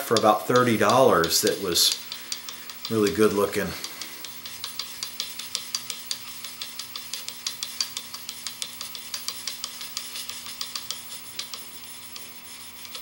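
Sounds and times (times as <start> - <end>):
chisel scraping on sharpening stone: 0.0 - 13.0.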